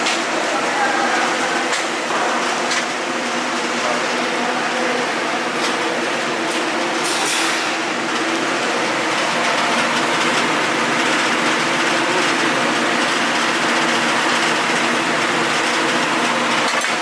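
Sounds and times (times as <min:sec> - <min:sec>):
welding machine hum: 0:00.0 - 0:17.0.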